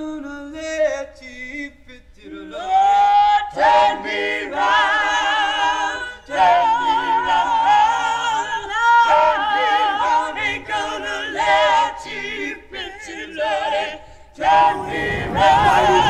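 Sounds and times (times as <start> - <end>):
a cappella choir singing: 0.2 - 16.0.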